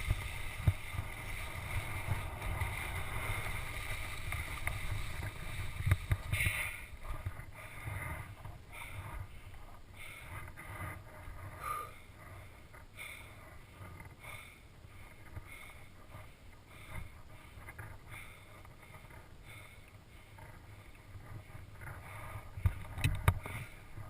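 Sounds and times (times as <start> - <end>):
skier breathing hard: 0.0 - 24.0.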